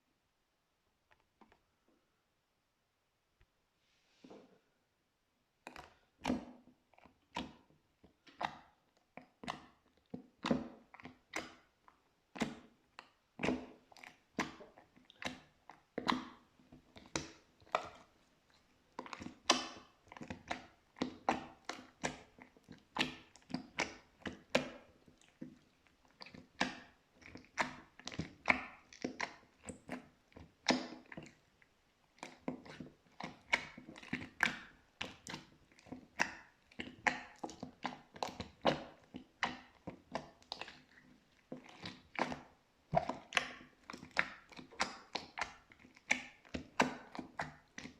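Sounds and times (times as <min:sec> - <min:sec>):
slime squishing with sticky pops: 0:05.6 - 0:47.9.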